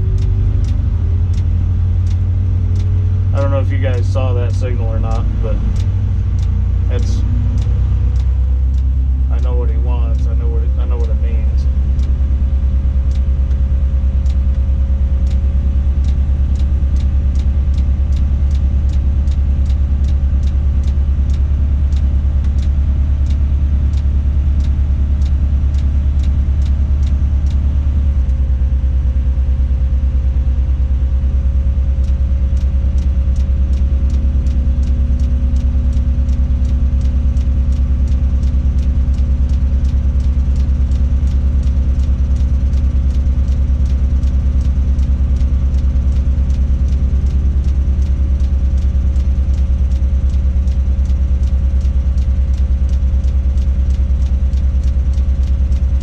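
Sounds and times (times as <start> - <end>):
diesel engine drone: 0.0 - 56.0
light regular ticking: 0.0 - 56.0.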